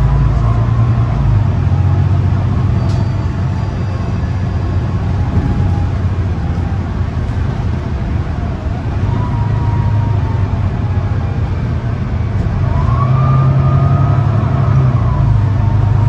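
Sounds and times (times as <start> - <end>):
bus diesel engine running: 0.0 - 16.0
faint engine whine: 0.0 - 16.0
road noise: 0.0 - 16.0.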